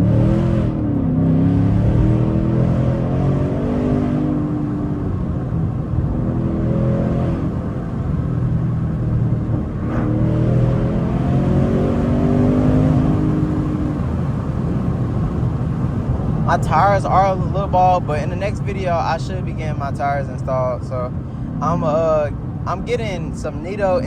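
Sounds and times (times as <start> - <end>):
car engine revving inside cabin: 0.0 - 19.7.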